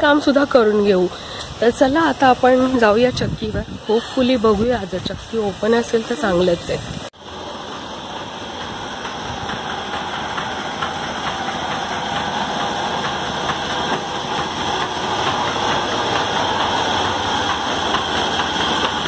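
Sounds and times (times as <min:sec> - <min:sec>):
flour mill mechanical drone: 0:00.0 - 0:19.0.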